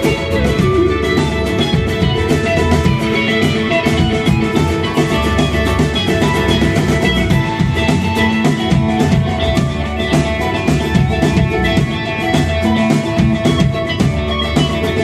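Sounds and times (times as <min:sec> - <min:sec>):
bass guitar: 0:00.0 - 0:15.0
guitars: 0:00.0 - 0:15.0
mandolin: 0:00.0 - 0:15.0
steady drum beat: 0:00.0 - 0:15.0.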